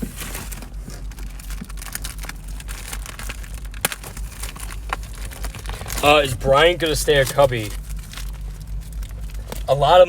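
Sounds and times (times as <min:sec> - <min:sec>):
cards and packaging rustling: 0:00.0 - 0:10.0
low hum inside car: 0:00.0 - 0:10.0.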